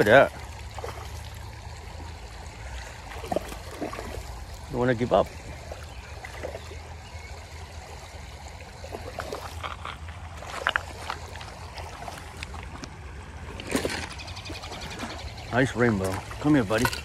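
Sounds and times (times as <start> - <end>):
fish splashing in water: 0.0 - 17.0
flowing water rushing: 0.0 - 17.0.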